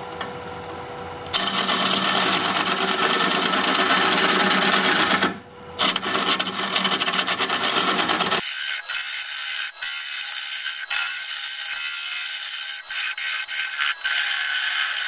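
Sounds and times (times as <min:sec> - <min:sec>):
gouge cutting wood on lathe: 0:01.3 - 0:15.0
lathe running: 0:01.3 - 0:15.0.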